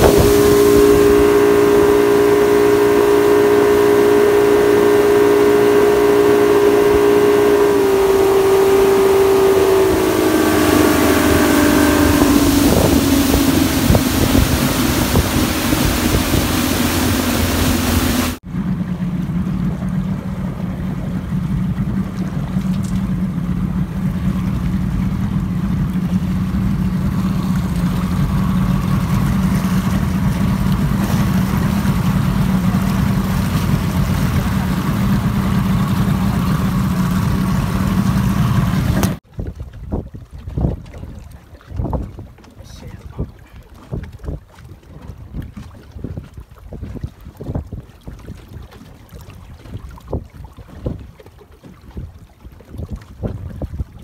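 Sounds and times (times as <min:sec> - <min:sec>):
motorboat engine whine: 0:00.0 - 0:54.0
rushing water: 0:00.0 - 0:54.0
wind: 0:00.0 - 0:54.0.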